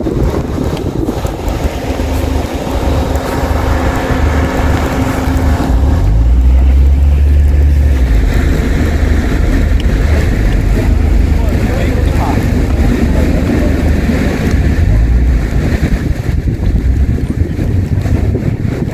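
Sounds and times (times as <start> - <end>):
car engine revving: 0.0 - 18.9
wheels spinning in snow: 0.0 - 18.9.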